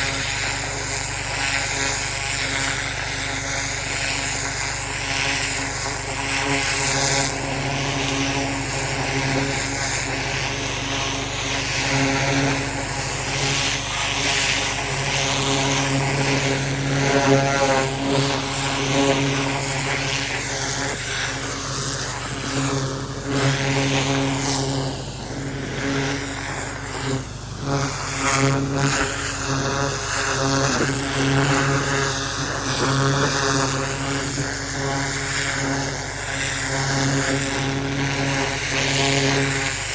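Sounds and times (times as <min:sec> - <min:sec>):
pressure washer engine drone: 0:00.0 - 0:39.9.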